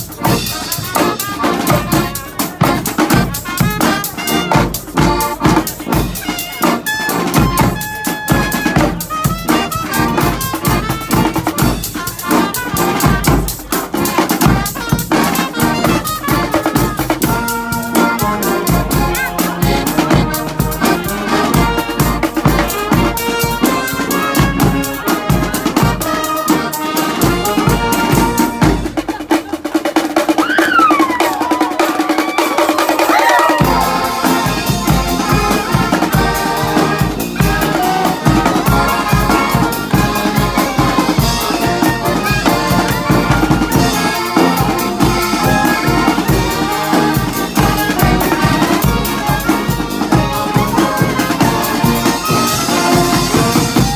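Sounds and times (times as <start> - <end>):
brass marching band playing: 0.0 - 53.9
drums with steady beat: 0.0 - 53.9.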